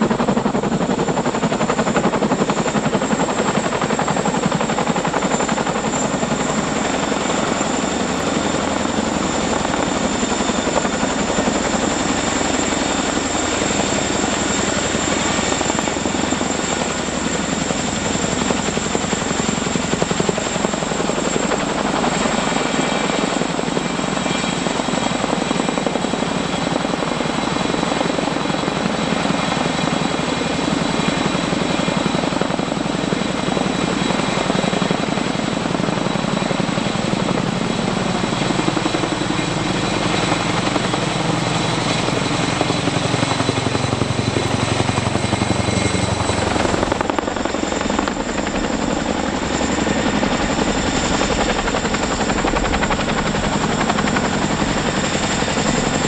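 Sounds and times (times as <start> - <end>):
helicopter rotor beat: 0.0 - 56.0.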